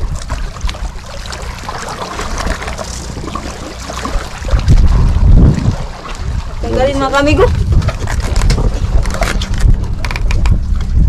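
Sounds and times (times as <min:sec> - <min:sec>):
water splashing and trickling: 0:00.0 - 0:11.0
wind rumble on microphone: 0:00.0 - 0:11.0.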